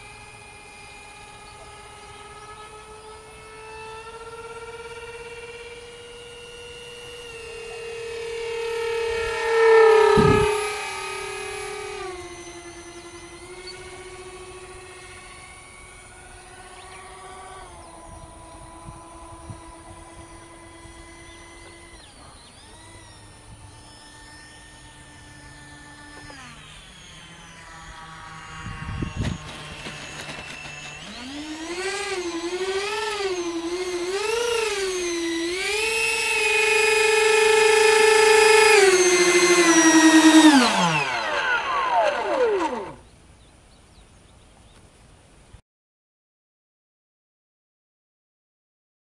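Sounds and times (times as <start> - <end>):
electric ducted fans whining: 0.0 - 44.6.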